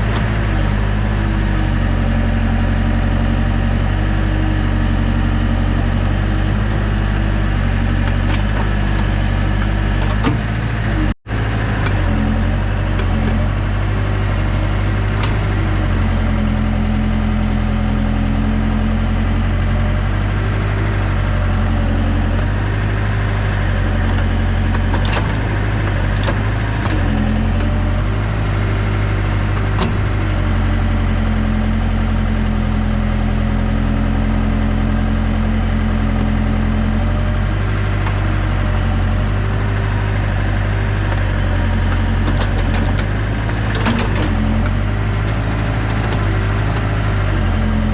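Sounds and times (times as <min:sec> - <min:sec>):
heavy equipment engine running: 0:00.0 - 0:47.9.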